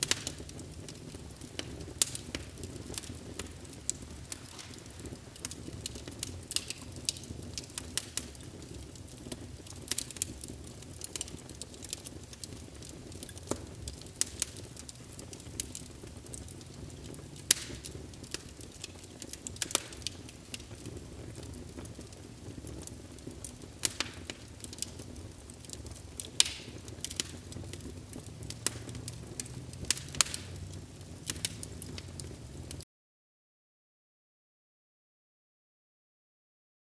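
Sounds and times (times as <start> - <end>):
low rush of flames: 0.0 - 32.8
wood fire crackling and popping: 0.0 - 32.8.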